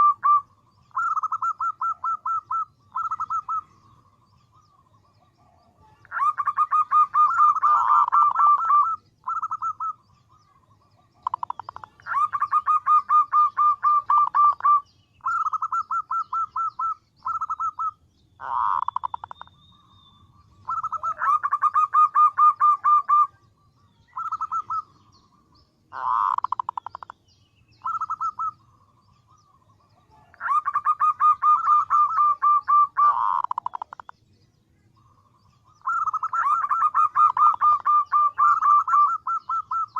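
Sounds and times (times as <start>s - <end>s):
dove trilled cooing: 0.0s - 27.2s, 27.8s - 34.2s, 35.0s - 39.9s.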